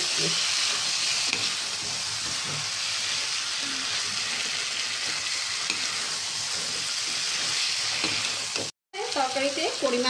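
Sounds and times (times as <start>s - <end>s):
potatoes sizzling in hot oil: 0.0s - 10.0s.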